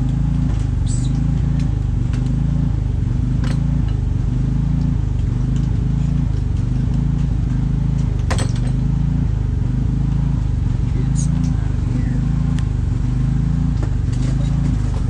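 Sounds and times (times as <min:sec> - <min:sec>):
low machine drone: 0:00.0 - 0:15.0.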